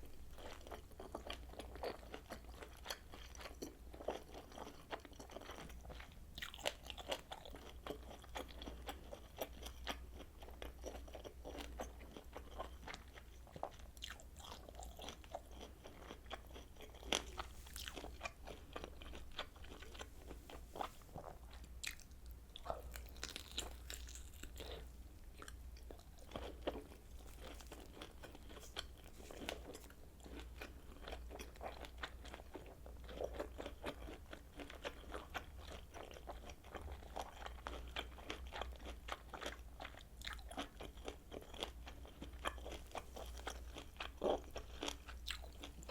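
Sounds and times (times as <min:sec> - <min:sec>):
chewing and biting sausage: 0:00.4 - 0:45.9.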